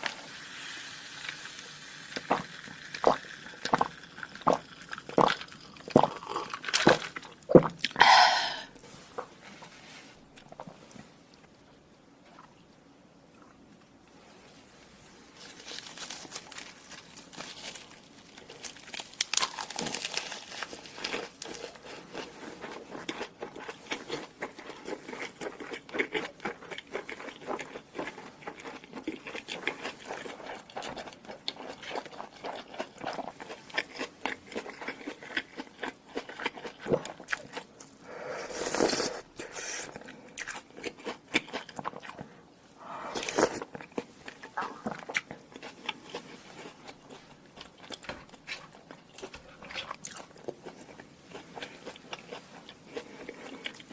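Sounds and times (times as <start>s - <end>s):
person chewing crunchy food: 1.2s - 8.8s, 15.4s - 53.9s.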